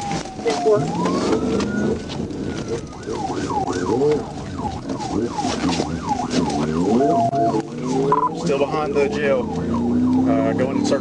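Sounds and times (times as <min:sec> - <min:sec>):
police siren yelping: 0:00.0 - 0:11.0.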